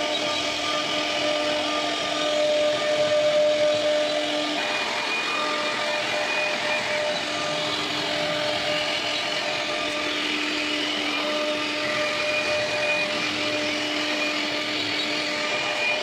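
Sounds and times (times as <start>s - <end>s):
machine whine: 0.0s - 16.0s
router spindle carving wood: 0.0s - 16.0s.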